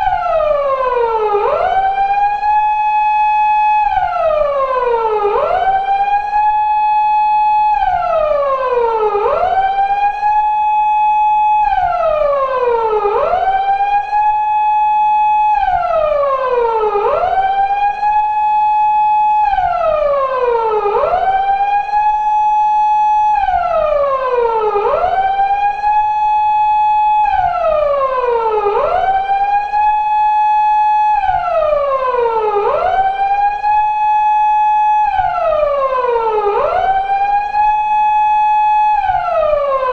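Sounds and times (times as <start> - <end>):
police car siren wailing: 0.0 - 39.9.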